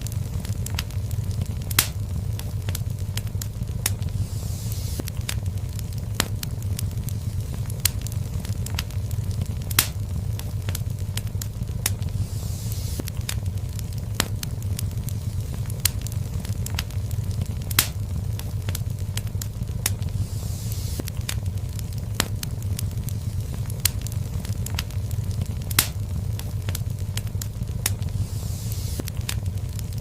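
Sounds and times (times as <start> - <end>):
low fire rumble: 0.0 - 30.0
soft hiss: 0.0 - 30.0
wood fire crackling and popping: 0.0 - 30.0.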